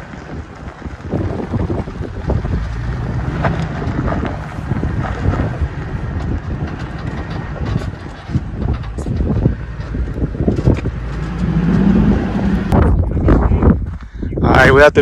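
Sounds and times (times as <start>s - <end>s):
truck knocking and rattling: 0.0s - 14.0s
tyres crunching over loose rock: 0.0s - 14.1s
truck engine low rumble: 0.0s - 15.0s
wind on microphone: 0.0s - 15.0s.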